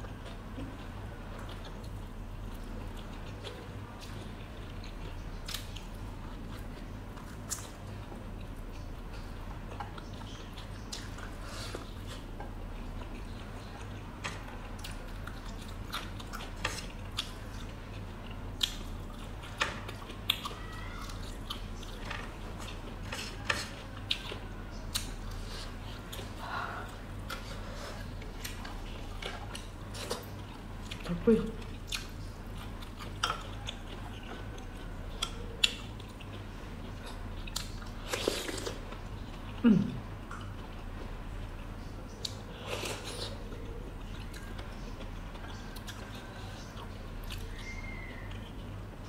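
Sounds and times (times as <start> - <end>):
steady low hum: 0.0 - 49.0
chewing and biting: 0.1 - 39.6, 41.6 - 48.9.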